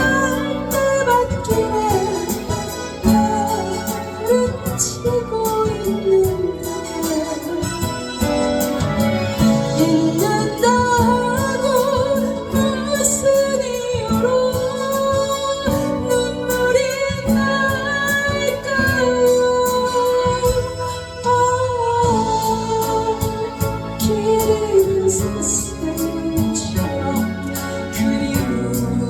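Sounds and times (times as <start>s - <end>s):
strummed acoustic guitar: 0.0s - 29.0s
woman singing a slow ballad: 0.0s - 29.0s.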